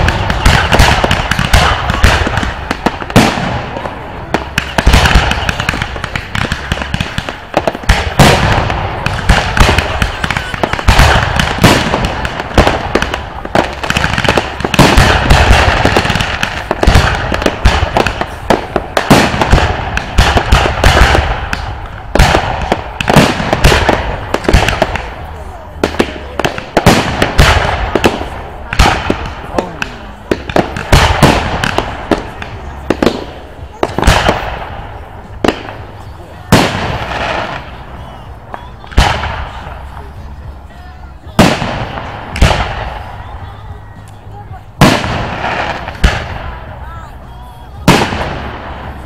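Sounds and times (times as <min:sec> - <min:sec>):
fireworks bangs: 0:00.0 - 0:49.0
fireworks crackle: 0:00.0 - 0:49.0.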